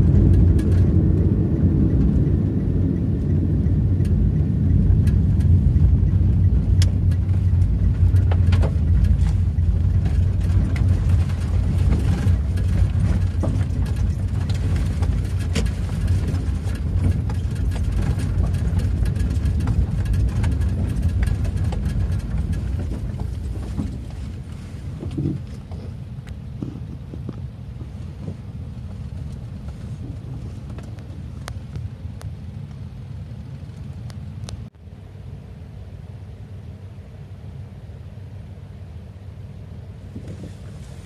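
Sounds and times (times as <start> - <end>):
car engine and tyre rumble: 0.0 - 41.0.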